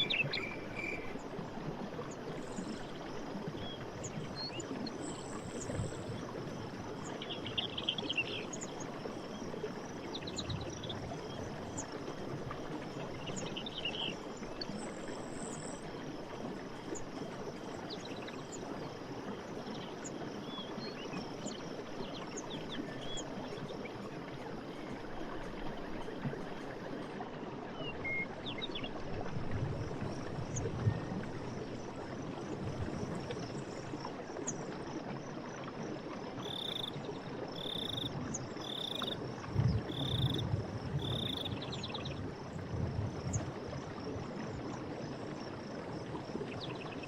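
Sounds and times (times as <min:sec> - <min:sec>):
flowing water: 0:00.0 - 0:47.0.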